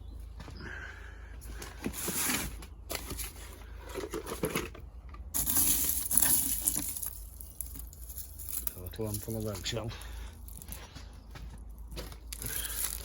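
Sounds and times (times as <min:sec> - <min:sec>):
hands rustling potting compost: 0:01.4 - 0:13.0.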